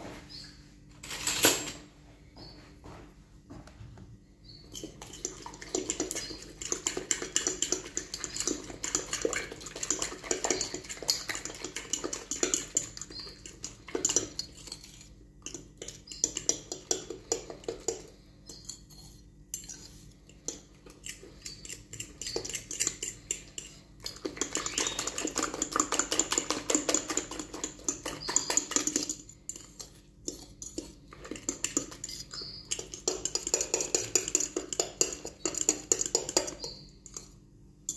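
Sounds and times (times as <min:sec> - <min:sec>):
utensil clinking in glass bowl: 0:04.5 - 0:37.9.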